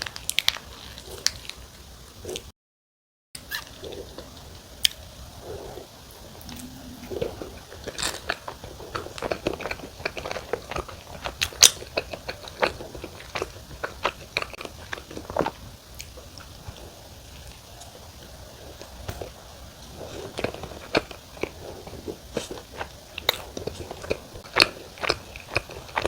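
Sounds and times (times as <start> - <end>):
chewing crusty pizza crust: 0.0 - 2.5, 3.5 - 6.3, 7.1 - 26.0.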